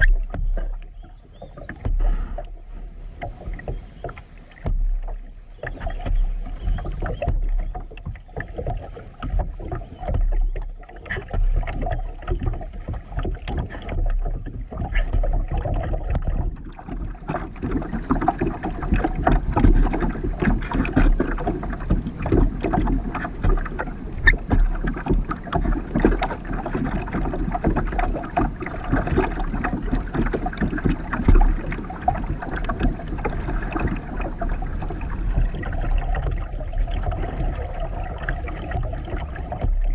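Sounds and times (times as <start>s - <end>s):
water splashing against kayak hull: 0.0s - 39.9s.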